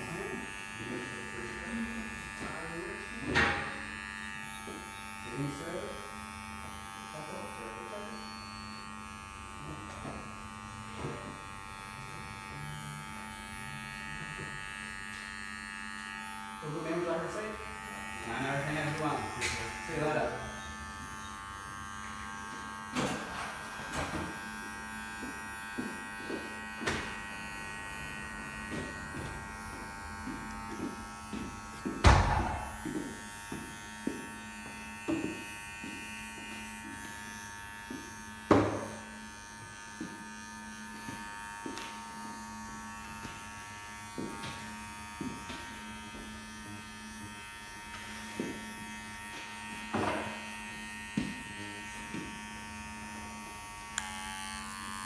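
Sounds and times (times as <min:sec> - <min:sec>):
hair clipper buzzing: 0:00.0 - 0:55.0.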